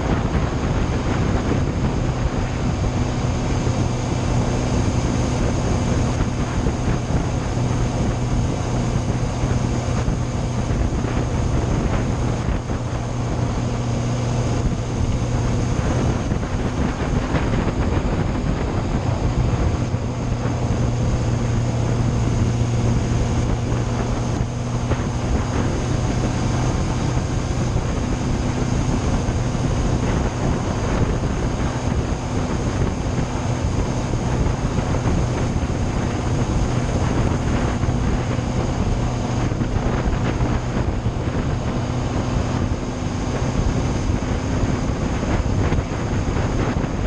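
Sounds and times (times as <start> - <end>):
motorcycle engine cruising: 0.0 - 47.0
wind rushing over microphone: 0.0 - 47.0.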